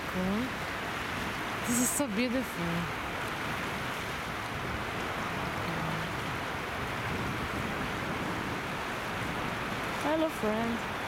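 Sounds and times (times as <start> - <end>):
river water rushing over weir: 0.0 - 11.0.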